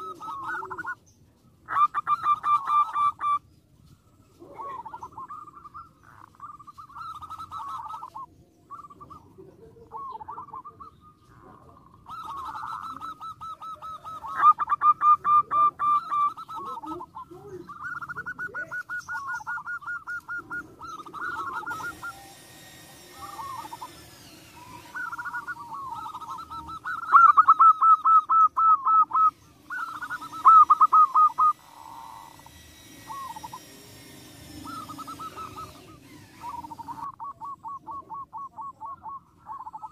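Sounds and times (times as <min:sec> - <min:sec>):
dove cooing: 0:00.0 - 0:03.5, 0:04.3 - 0:39.9.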